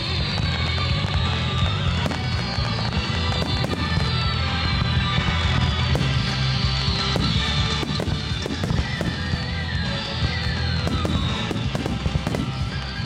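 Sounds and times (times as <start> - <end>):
fireworks bangs and crackle: 0.0 - 13.0
loud music playing: 0.0 - 13.0.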